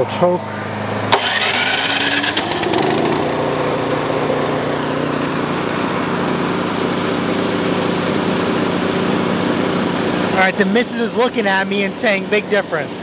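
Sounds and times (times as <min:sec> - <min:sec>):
snowblower engine running: 0:00.0 - 0:13.0.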